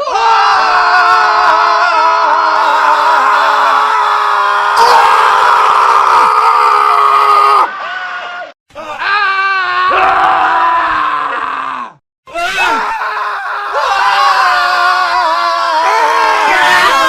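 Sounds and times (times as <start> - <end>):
men screaming: 0.0 - 17.0.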